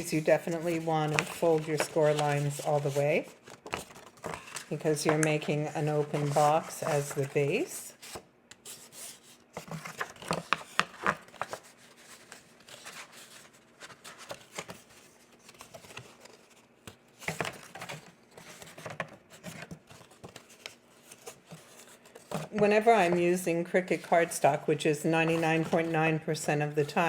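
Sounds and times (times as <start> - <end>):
cardstock creasing and rustling: 0.0 - 27.0.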